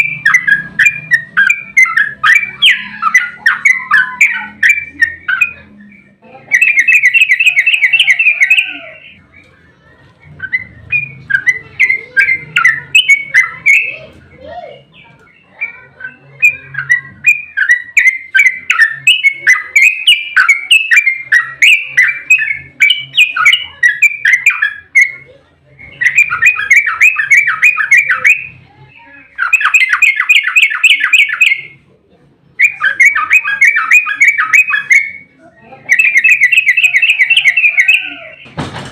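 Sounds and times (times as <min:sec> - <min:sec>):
bird chattering: 0:00.0 - 0:31.8, 0:32.5 - 0:38.6
bird singing rolling bursts: 0:00.0 - 0:31.8, 0:32.4 - 0:38.6.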